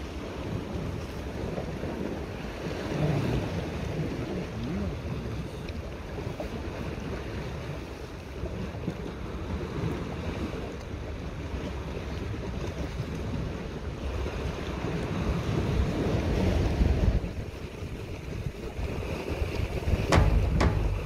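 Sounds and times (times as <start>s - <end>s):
waves washing against rocks: 0.0s - 21.0s
wind buffeting microphone: 0.0s - 21.0s.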